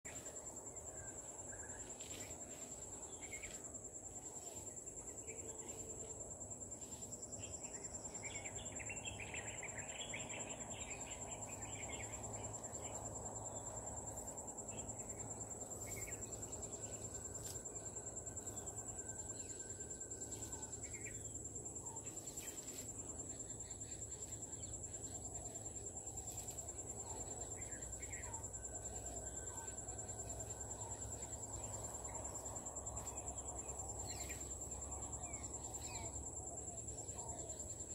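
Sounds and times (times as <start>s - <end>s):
insects trilling: 0.1s - 37.9s.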